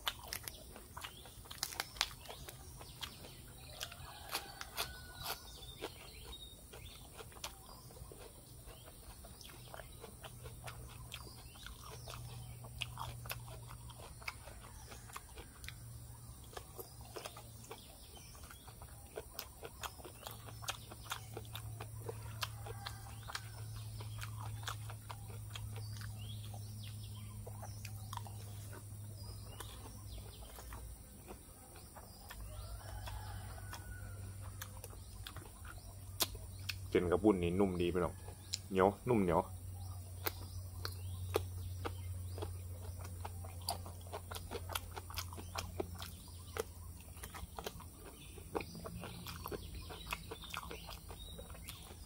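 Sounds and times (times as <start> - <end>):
faint birds chirping: 0.0 - 52.0
wet chewing clicks and smacks: 0.0 - 52.0.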